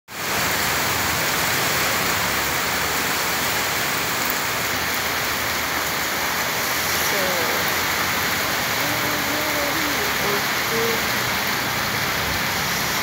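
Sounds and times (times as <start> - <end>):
heavy rain pouring: 0.1 - 13.0.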